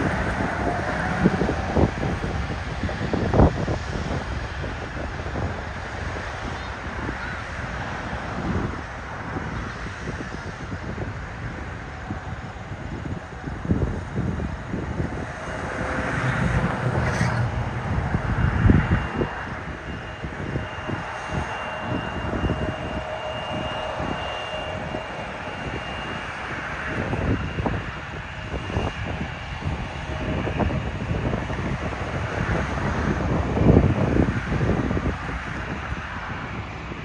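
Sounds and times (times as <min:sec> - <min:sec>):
high engine whine: 0:00.0 - 0:37.0
jet engines rushing: 0:00.0 - 0:37.0.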